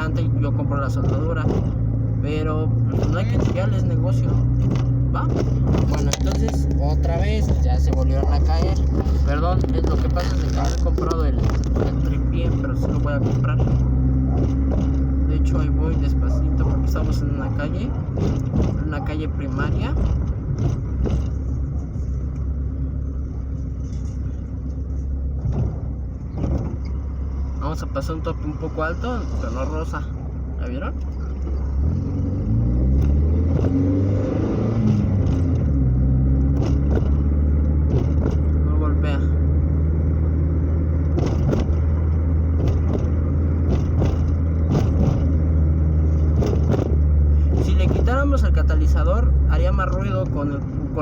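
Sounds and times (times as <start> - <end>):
car exhaust low rumble: 0.0 - 51.0.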